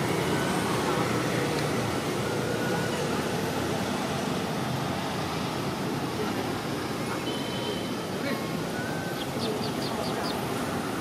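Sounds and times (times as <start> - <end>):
outdoor rumble and hiss: 0.0 - 11.0.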